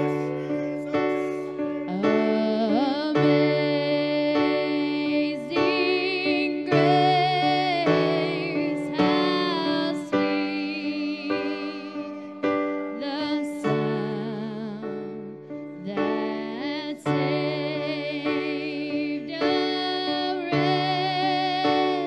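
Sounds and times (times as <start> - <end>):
held keyboard chords: 0.0 - 22.0
person singing with vibrato: 0.0 - 22.0.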